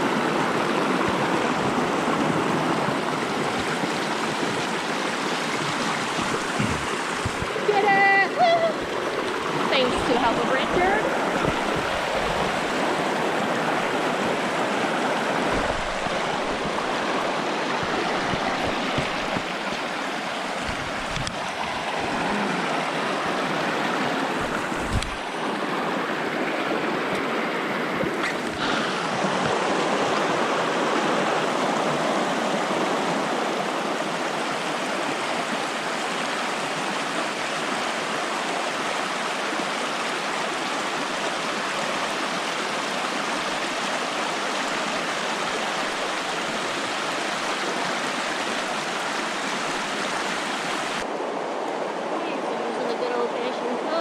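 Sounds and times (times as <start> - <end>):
brook water rushing: 0.0 - 54.0.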